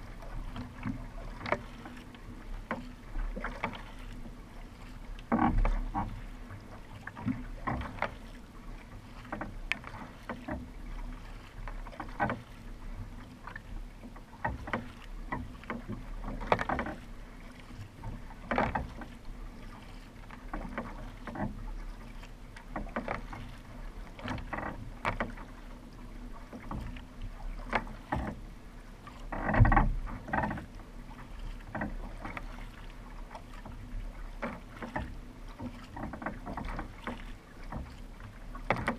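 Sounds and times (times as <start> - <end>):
paddle splashing into water: 0.0 - 38.9
water rushing along hull: 0.0 - 38.9.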